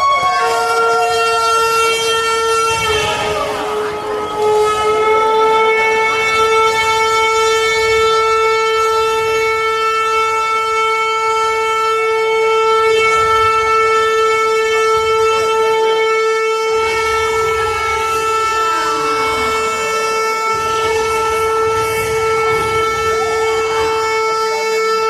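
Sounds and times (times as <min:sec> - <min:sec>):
siren steady tone: 0:00.0 - 0:25.0.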